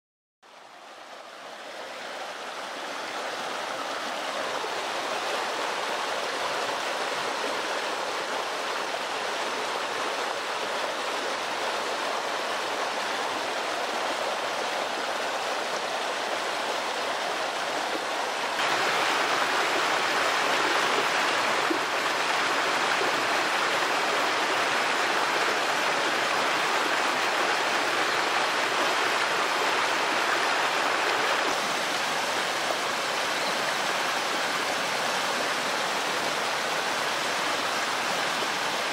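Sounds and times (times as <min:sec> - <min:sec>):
mountain stream rushing: 0:00.5 - 0:38.9.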